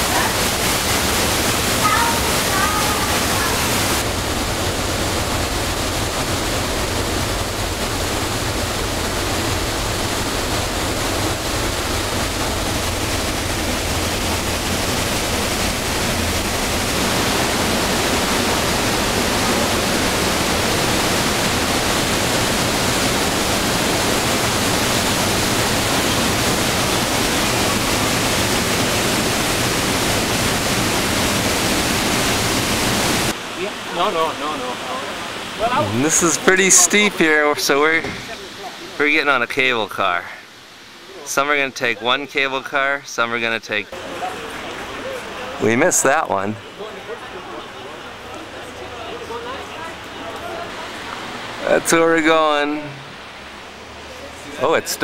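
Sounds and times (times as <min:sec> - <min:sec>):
waterfall rushing in rock gorge: 0:00.0 - 0:43.0, 0:43.7 - 0:55.0.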